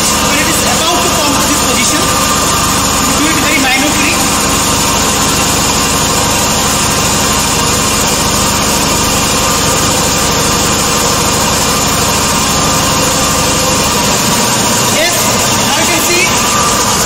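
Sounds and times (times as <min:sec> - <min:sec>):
machine drone with low flutter: 0:00.0 - 0:17.0.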